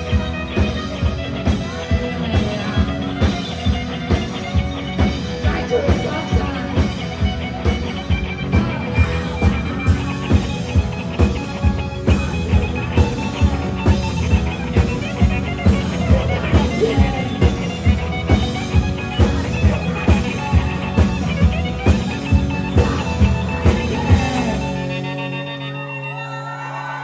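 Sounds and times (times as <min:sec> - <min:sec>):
drums beating: 0:00.0 - 0:24.9
rock band playing live: 0:00.0 - 0:27.0.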